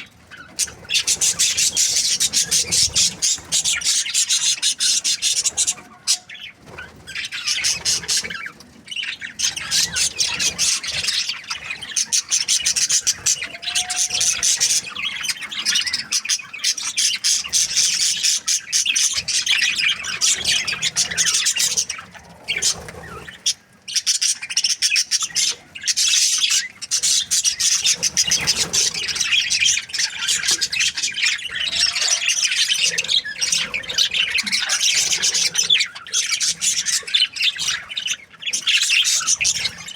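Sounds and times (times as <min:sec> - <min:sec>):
budgerigar chirping and chattering: 0:00.0 - 0:39.9.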